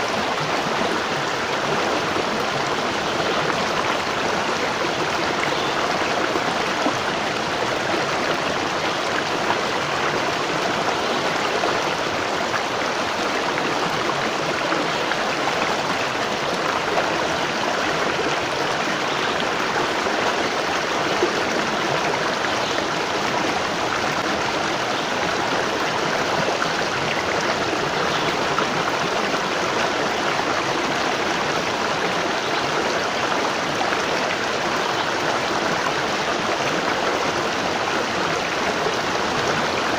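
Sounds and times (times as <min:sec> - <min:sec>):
waterfall water splashing: 0:00.0 - 0:39.9.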